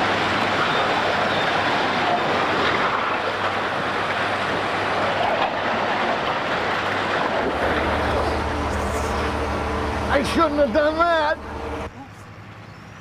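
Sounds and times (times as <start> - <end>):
heavy construction machinery racket: 0.0 - 13.0.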